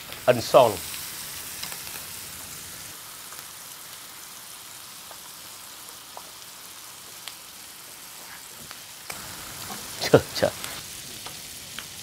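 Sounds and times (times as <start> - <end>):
steaks sizzling in a pan: 0.0 - 12.0.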